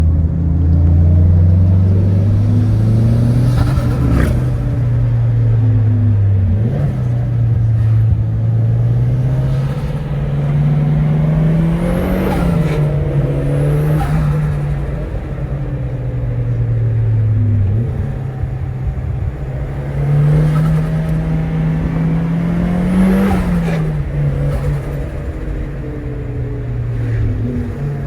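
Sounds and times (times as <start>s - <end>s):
car engine pulling under load: 0.0s - 28.0s.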